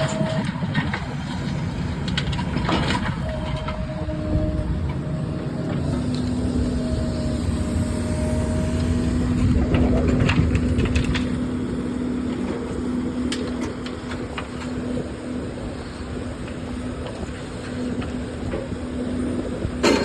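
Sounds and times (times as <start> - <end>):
excavator engine rumble: 0.0 - 20.0.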